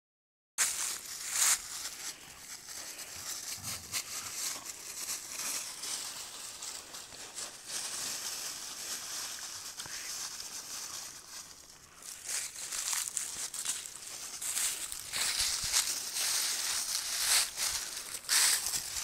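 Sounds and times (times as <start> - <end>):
dry leaves crunching and rustling: 0.6 - 19.0.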